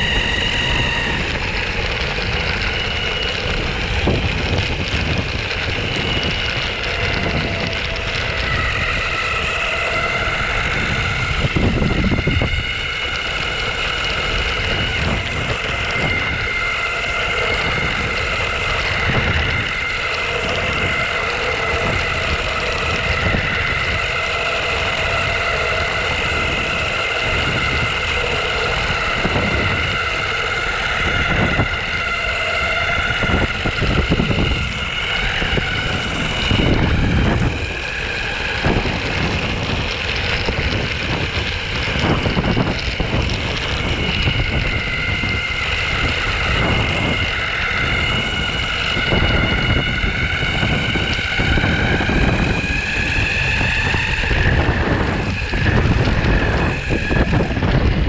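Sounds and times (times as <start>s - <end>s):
electric motors and belts whining: 0.0s - 58.0s
rubber wheels rolling: 0.0s - 58.0s
wind buffeting microphone: 0.0s - 58.0s.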